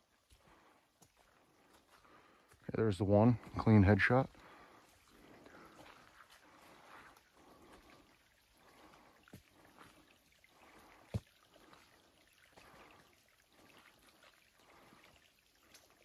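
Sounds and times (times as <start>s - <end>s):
footsteps squelching in mud: 0.1s - 16.0s.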